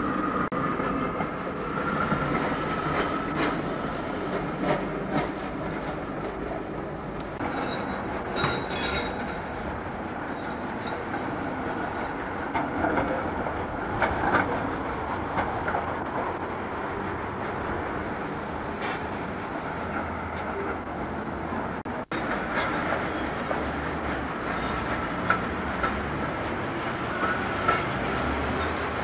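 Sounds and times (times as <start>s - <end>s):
tram wheels rumbling on track: 0.0s - 29.0s.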